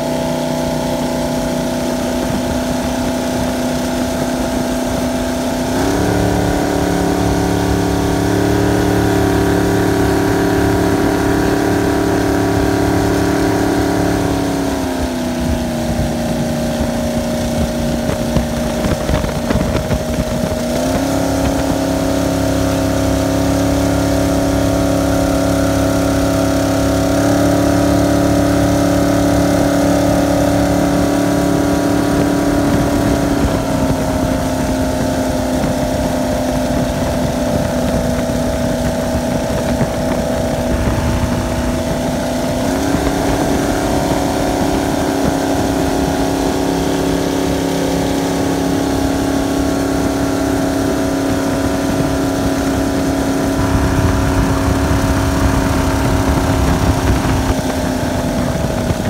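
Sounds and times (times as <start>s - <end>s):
boat engine running hard: 0.0s - 59.0s
rushing water and spray: 0.0s - 59.0s.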